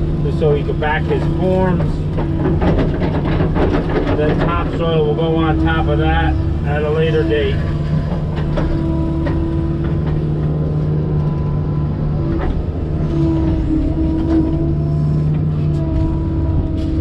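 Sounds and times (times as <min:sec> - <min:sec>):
excavator diesel engine: 0:00.0 - 0:17.0
hydraulic whine: 0:00.0 - 0:17.0.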